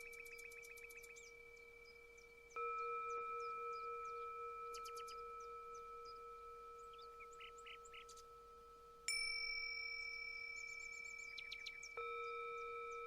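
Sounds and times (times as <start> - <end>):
ringing bell-like chimes: 0.0 - 13.0
small birds chirping: 0.0 - 13.0.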